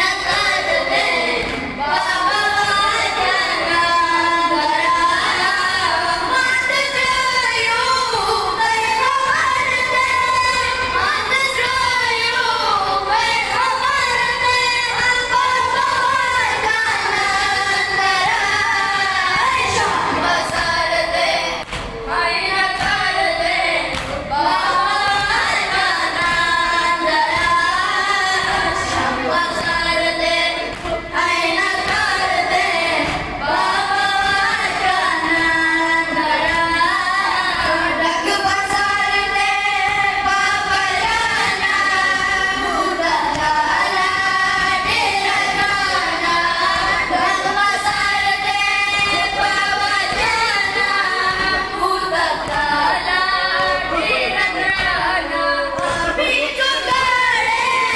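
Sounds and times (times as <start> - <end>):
boys chanting through microphones: 0.0 - 57.9.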